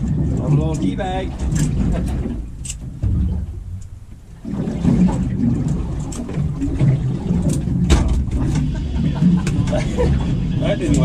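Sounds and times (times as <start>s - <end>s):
water against boat: 0.0s - 11.0s
wind: 0.0s - 11.0s.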